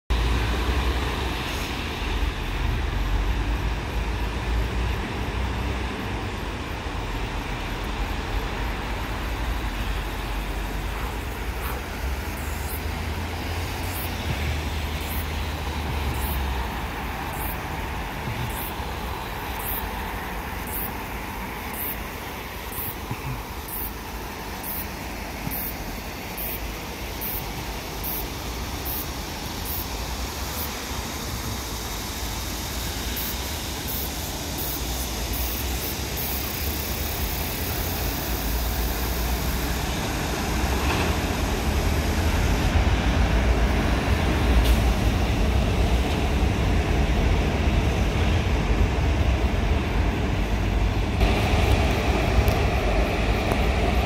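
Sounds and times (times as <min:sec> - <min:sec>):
road traffic rumble: 0:00.1 - 0:54.0.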